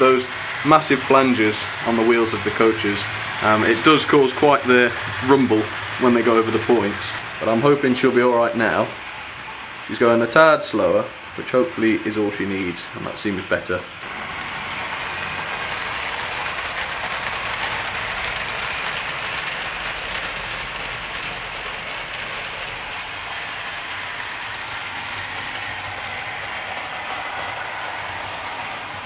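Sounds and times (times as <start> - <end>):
model train motor whirring: 0.0 - 10.4, 11.0 - 29.0
wheels rattling over rails: 0.0 - 29.0.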